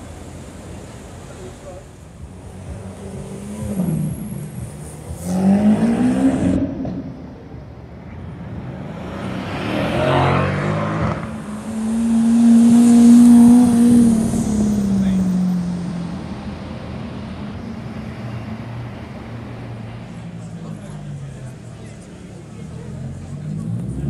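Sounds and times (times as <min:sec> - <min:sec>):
supercar engines revving: 0:00.0 - 0:24.0.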